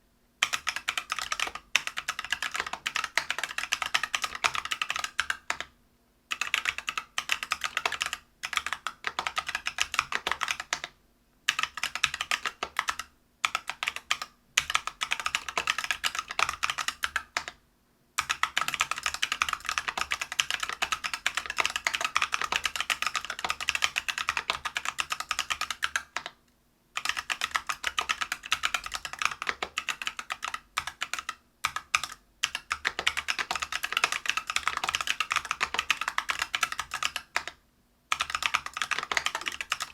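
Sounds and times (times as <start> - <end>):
mechanical keyboard typing: 0.4 - 5.7, 6.3 - 10.9, 11.5 - 17.6, 18.2 - 26.4, 27.0 - 39.9.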